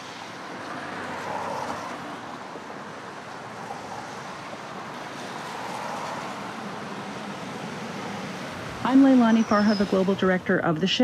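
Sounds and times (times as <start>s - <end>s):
street traffic hiss: 0.0s - 11.0s.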